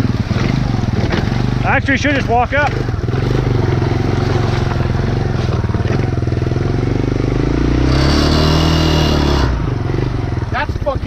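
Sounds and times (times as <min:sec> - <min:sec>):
atv engine revving under load: 0:00.0 - 0:11.0.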